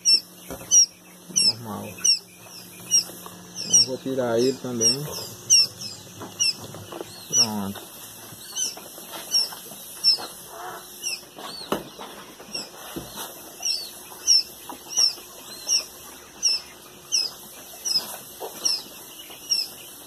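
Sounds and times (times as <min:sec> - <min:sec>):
quail chicks peeping: 0:00.0 - 0:20.0.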